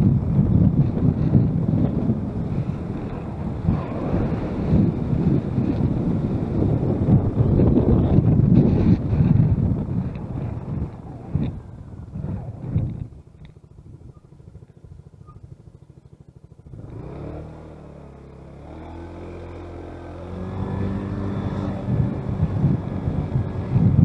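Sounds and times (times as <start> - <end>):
vehicle engine running: 0.0 - 24.0
wind buffeting microphone: 0.0 - 24.0.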